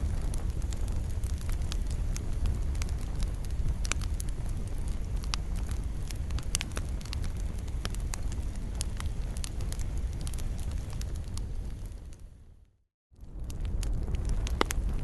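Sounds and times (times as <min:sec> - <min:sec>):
campfire wood crackling and popping: 0:00.0 - 0:12.6, 0:13.2 - 0:15.0
low rumble of flames: 0:00.0 - 0:15.0.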